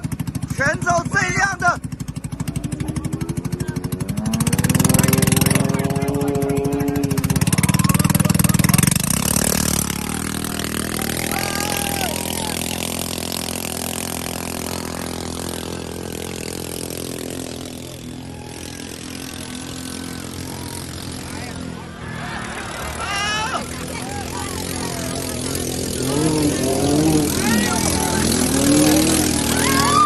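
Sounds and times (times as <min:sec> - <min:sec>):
motorbike engine revving: 0:00.0 - 0:30.0.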